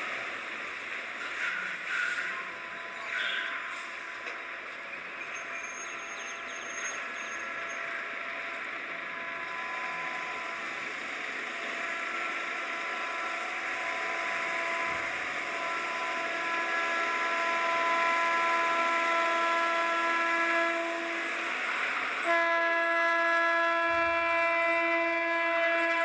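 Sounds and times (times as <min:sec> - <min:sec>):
electric locomotive whine: 0:00.0 - 0:26.0
train rushing noise: 0:00.0 - 0:26.0.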